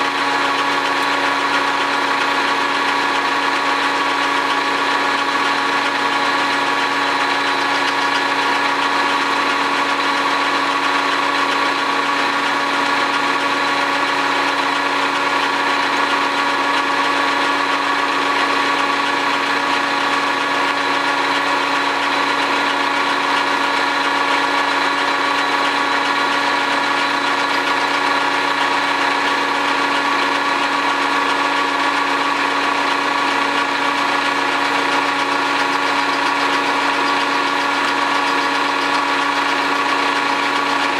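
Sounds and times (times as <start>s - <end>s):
metal lathe hum and whine: 0.0s - 40.9s.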